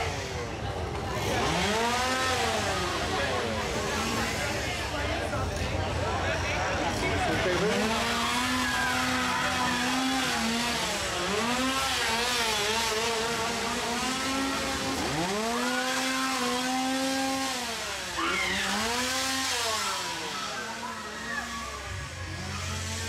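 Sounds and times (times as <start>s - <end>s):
small engine revving: 0.0s - 23.0s.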